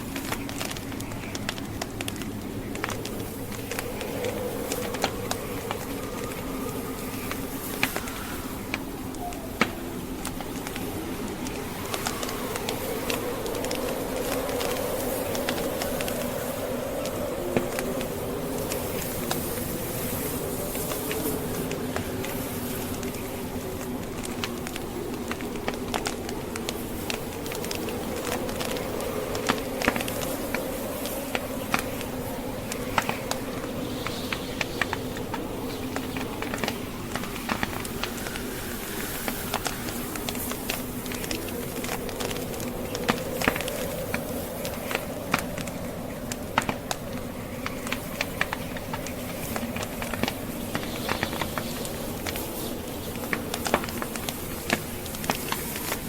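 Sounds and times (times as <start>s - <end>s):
blizzard wind blowing: 0.0s - 56.0s
fireplace logs crackling: 0.0s - 56.0s.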